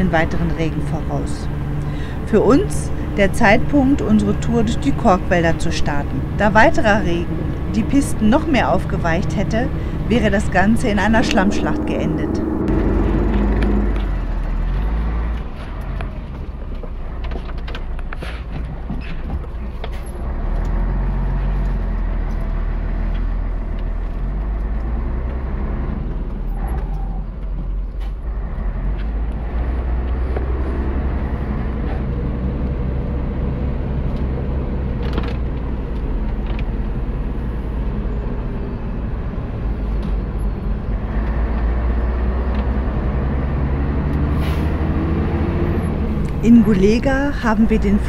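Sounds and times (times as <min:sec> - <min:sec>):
road noise: 0:00.0 - 0:48.0
truck engine running: 0:00.0 - 0:48.0.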